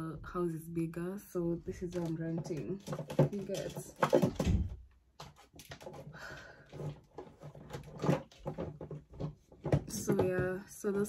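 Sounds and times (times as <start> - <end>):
objects being handled clicking: 1.7 - 10.6.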